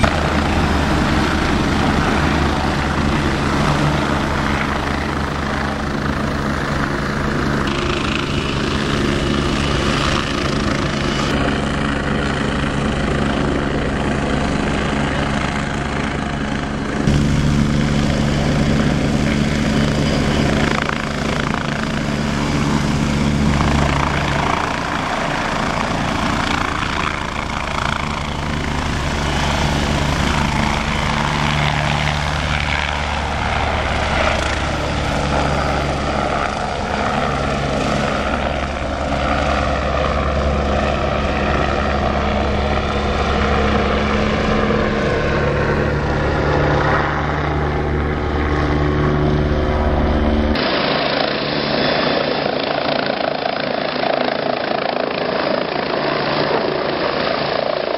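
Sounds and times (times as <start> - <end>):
helicopter rotor and engines: 0.0 - 57.9.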